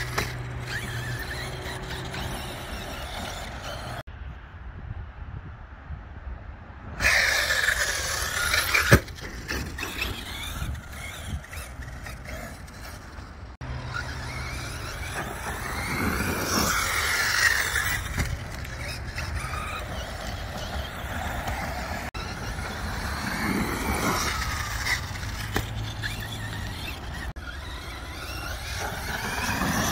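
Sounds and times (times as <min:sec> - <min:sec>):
electric motors whining: 0:00.0 - 0:04.1, 0:07.0 - 0:29.9.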